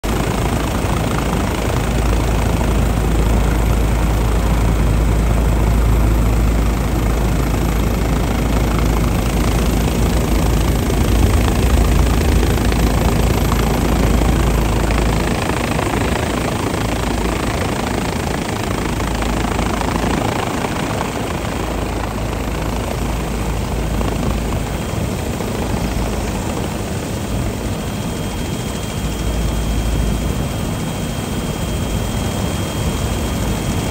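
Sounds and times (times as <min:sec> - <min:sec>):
helicopter hovering: 0:00.0 - 0:33.9.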